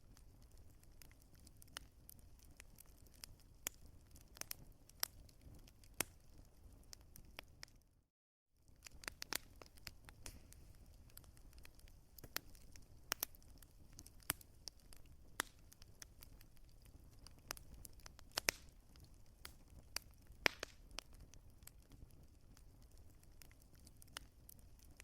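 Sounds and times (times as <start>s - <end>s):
wood fire crackling: 0.0s - 7.9s, 8.6s - 25.0s.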